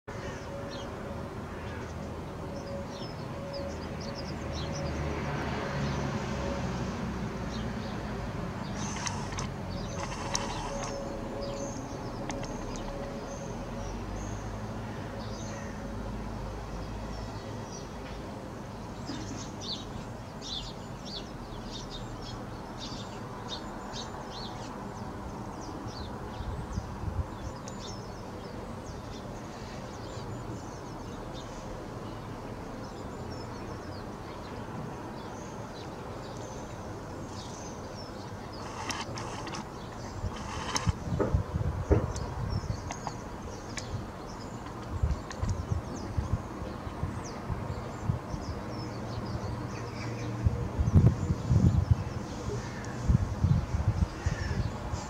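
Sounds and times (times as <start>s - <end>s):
outdoor background noise: 0.0s - 55.0s
birds chirping: 7.5s - 15.9s, 18.7s - 55.0s.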